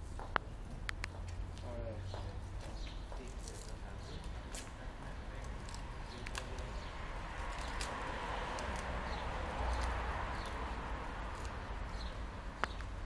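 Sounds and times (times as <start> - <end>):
outdoor street noise: 0.0 - 13.0.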